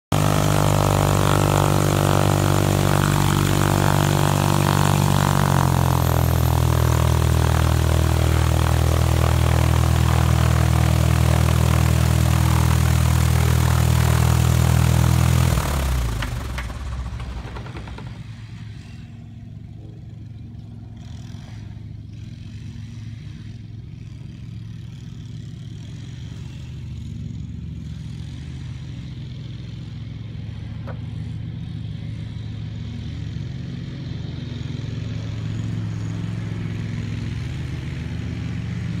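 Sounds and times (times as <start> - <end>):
aircraft piston engine idling: 0.1 - 39.0
low hum: 0.1 - 39.0
propeller winding down: 0.1 - 39.0.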